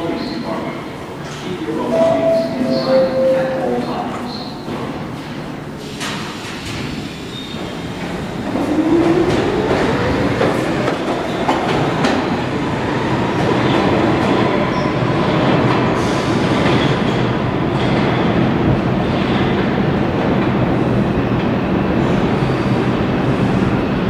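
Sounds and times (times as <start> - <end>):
subway train motors accelerating: 0.0 - 24.0.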